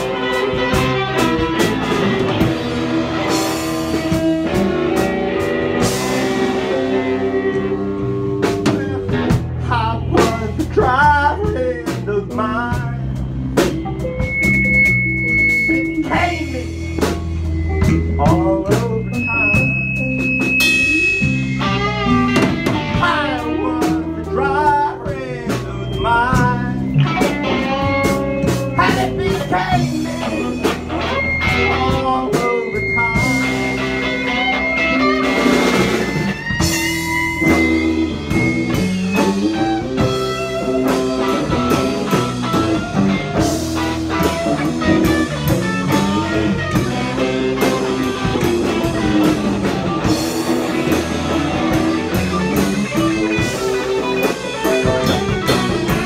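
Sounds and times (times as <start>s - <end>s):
live punk band playing: 0.0s - 56.0s.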